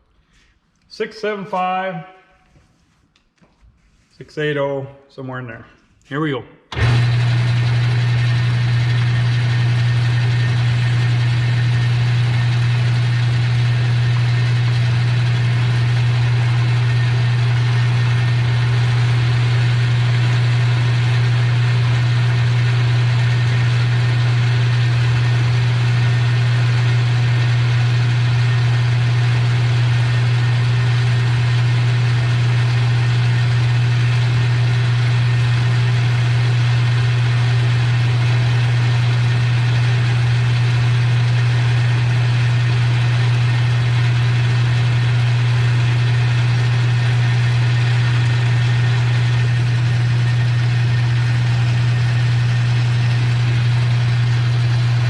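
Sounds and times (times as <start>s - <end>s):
metal lathe humming: 6.7s - 55.0s.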